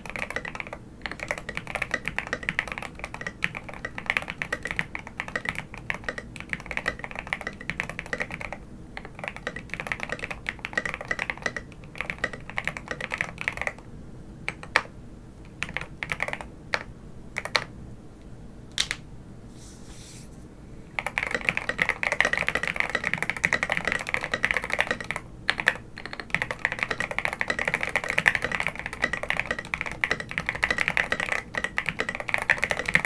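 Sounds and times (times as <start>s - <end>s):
mechanical keyboard typing: 0.0s - 13.9s, 14.5s - 17.7s, 21.0s - 33.0s.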